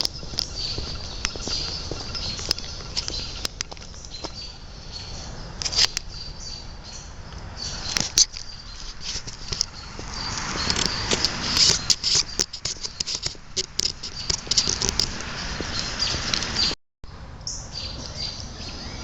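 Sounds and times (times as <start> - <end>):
footsteps crunching on a trail: 0.0 - 16.8.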